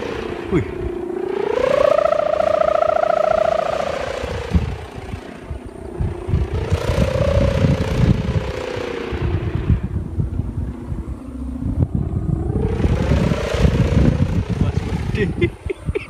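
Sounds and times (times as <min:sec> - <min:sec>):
kite hummer droning: 0:00.0 - 0:16.0
wind buffeting microphone: 0:00.0 - 0:16.0.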